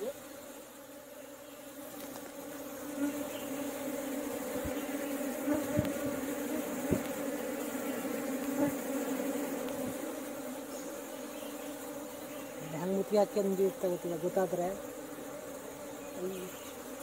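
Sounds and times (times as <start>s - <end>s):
honeybee colony buzzing: 0.0s - 17.0s
single bees flying past: 0.0s - 17.0s.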